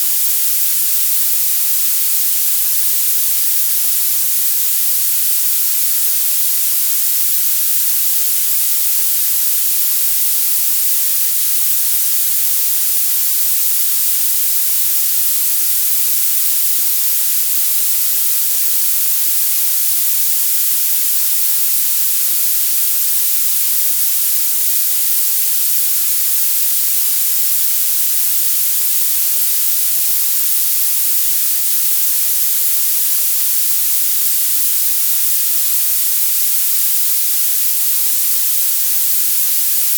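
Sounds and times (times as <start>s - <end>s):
bright violet noise hiss: 0.0s - 39.9s.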